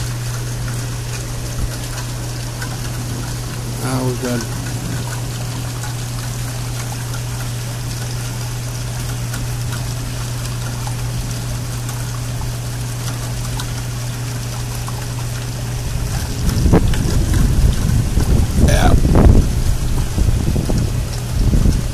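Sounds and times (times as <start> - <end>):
low hum: 0.0 - 21.9
steady rain: 0.0 - 21.9
water running and trickling: 0.0 - 21.9.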